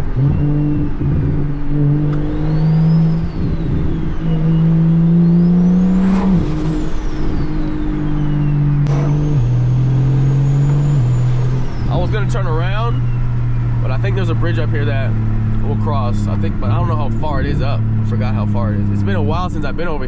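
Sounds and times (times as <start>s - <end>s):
car engine and exhaust: 0.0s - 20.0s.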